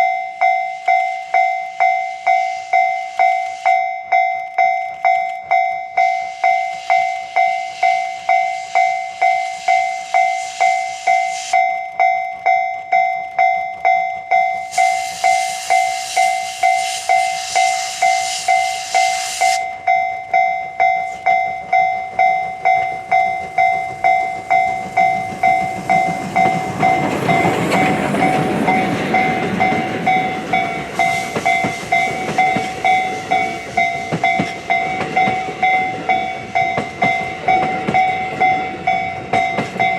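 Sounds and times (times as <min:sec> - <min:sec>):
level crossing warning bell: 0:00.0 - 0:39.9
train rumbling past: 0:00.0 - 0:39.9.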